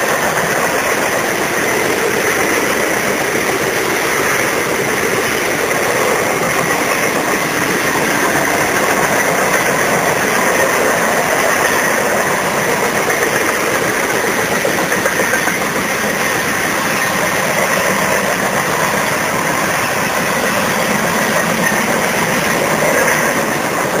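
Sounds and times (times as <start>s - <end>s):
freight train wheels rolling: 0.0s - 24.0s.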